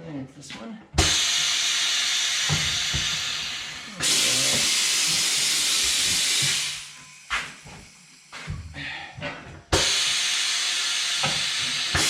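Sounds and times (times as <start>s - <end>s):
compressed air hissing: 1.0s - 12.0s.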